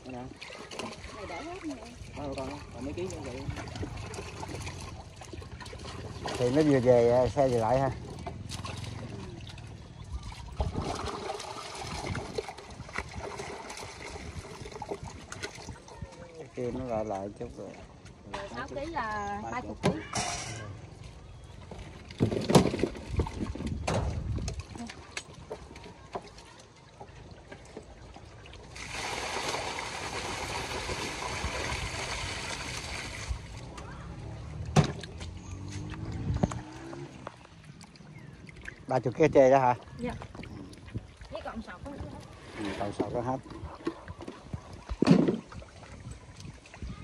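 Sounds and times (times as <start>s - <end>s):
water trickling and splashing: 0.0s - 47.0s.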